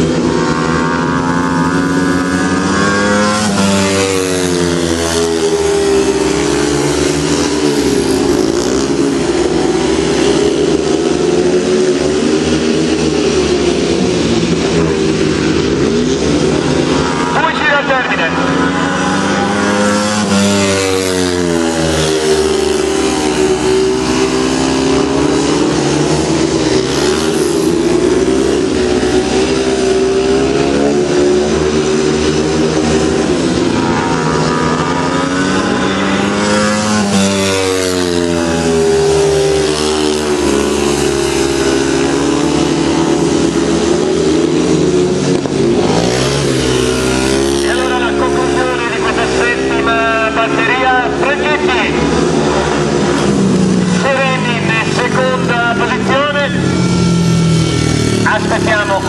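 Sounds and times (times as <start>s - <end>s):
motorcycle engines racing: 0.0s - 59.0s.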